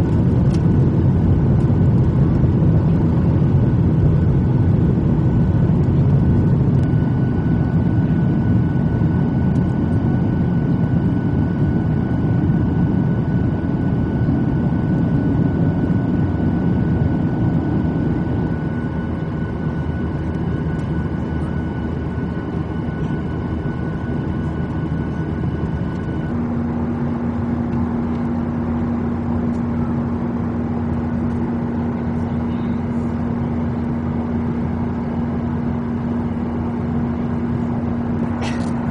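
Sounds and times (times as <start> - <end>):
jet engine cabin rumble: 0.0 - 38.9
steady low hum: 0.0 - 38.9.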